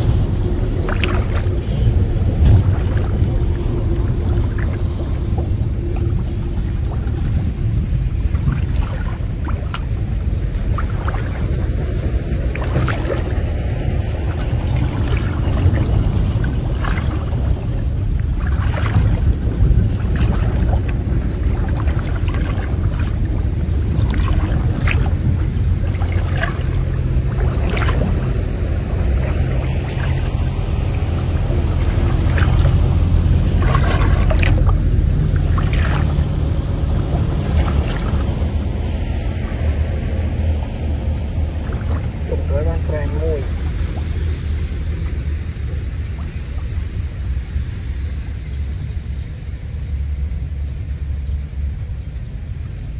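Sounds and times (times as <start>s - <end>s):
water splashing and dripping: 0.0s - 47.3s
wind rumbling on microphone: 0.0s - 52.9s.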